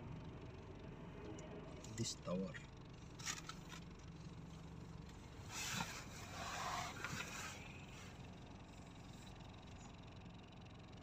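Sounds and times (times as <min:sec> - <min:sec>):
car road and engine hum: 0:00.0 - 0:11.0.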